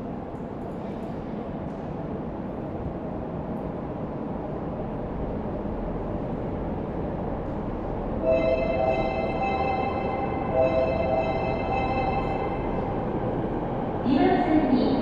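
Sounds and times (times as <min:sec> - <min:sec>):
subway train wheels rumbling on track: 0:00.0 - 0:15.0.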